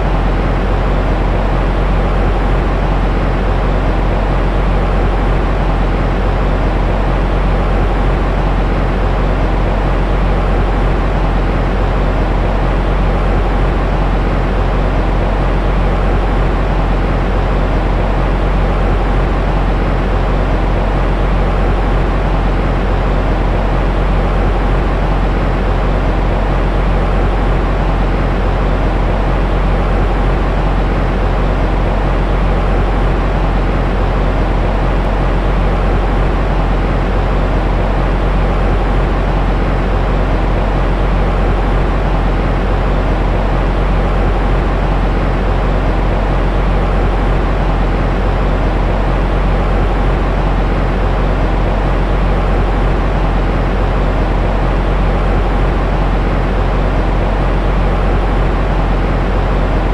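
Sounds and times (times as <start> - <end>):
deep white noise hiss: 0.0 - 59.9.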